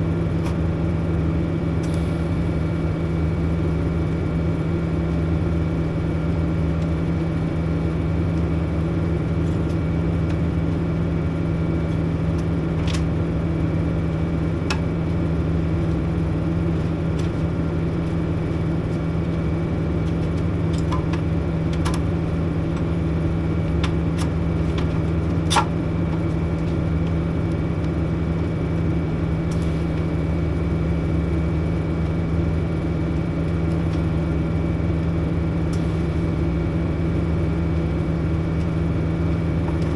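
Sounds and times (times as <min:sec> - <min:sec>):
welder electrical hum: 0:00.0 - 0:39.9.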